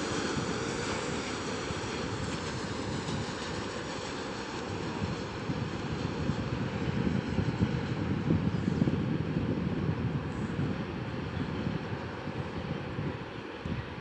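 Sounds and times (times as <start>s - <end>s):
freight train wheels rumbling on rail: 0.0s - 13.1s.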